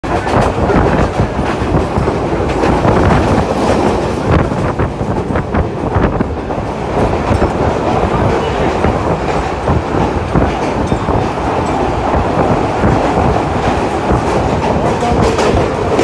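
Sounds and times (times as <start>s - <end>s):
train rushing past: 0.0s - 16.0s
wheels clattering over rail joints: 0.0s - 16.0s.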